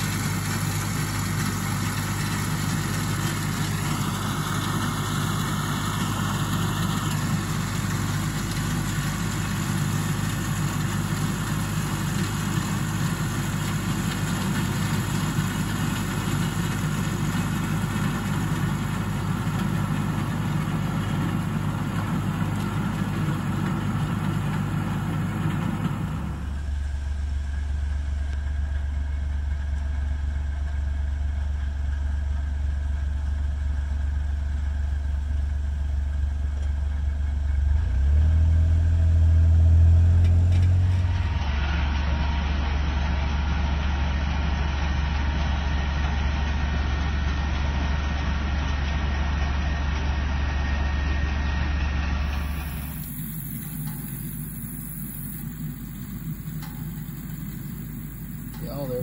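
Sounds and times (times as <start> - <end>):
corn picker machinery noise: 0.0 - 32.4, 37.6 - 59.0
tractor diesel engine running: 0.0 - 59.0.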